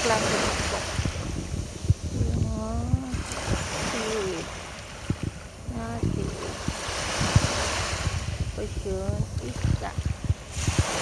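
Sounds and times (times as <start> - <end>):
small waves washing on sand: 0.0 - 11.0.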